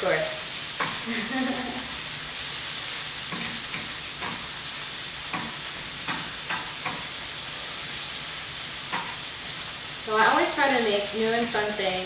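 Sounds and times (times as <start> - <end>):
food sizzling in pans: 0.0 - 12.0.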